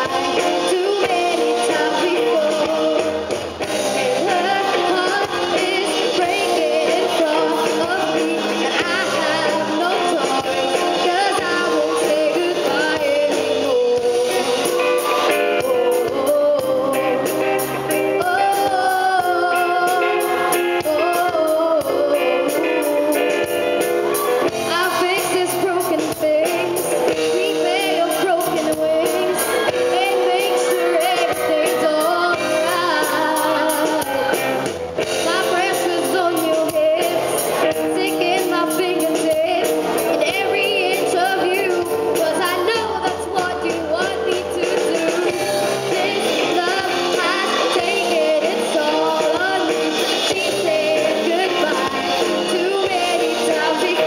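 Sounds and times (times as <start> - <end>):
person singing: 0.0 - 54.0
rock band playing live: 0.0 - 54.0
steady drum beat: 0.0 - 54.0.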